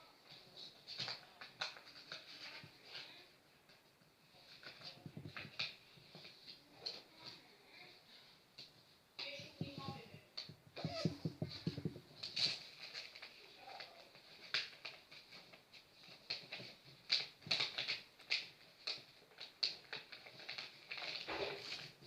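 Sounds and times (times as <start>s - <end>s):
paper being folded and creased: 0.2s - 7.6s, 8.6s - 22.0s.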